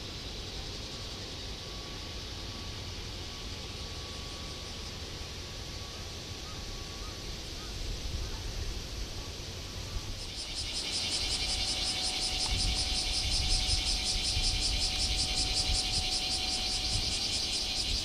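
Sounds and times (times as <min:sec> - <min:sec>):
cicada buzzing: 0:00.0 - 0:18.0
low outdoor background rumble: 0:00.0 - 0:18.0.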